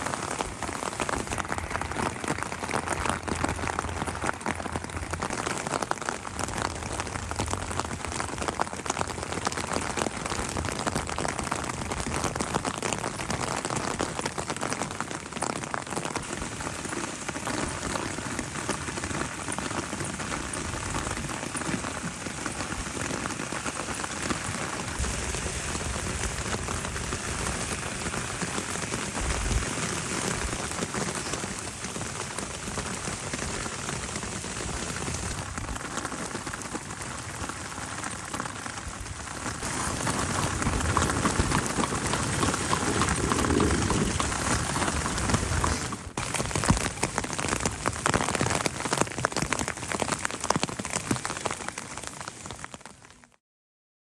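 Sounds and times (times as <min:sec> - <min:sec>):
steady rain patter: 0:00.0 - 0:53.4.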